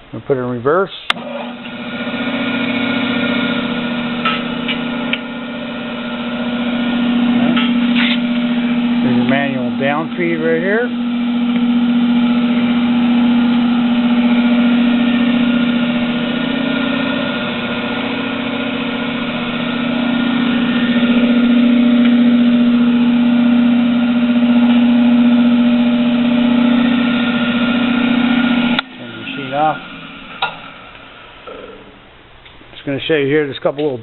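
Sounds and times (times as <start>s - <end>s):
drill press motor humming: 1.1s - 32.7s.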